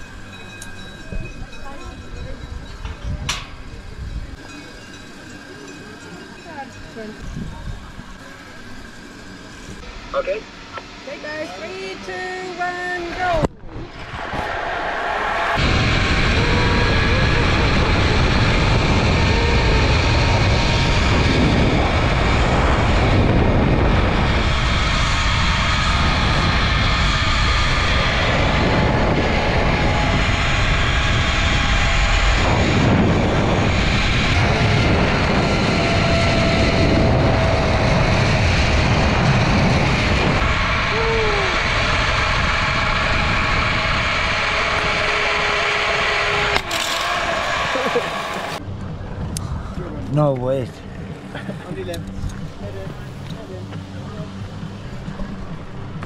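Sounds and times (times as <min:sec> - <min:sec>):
wind buffeting microphone: 0:00.0 - 0:09.9, 0:12.9 - 0:56.0
thin steady whine: 0:00.0 - 0:56.0
zipline trolley whir: 0:00.0 - 0:56.0.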